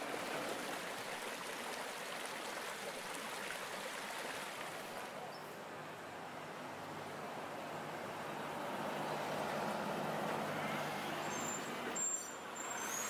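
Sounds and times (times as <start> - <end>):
river water rushing: 0.0 - 11.7.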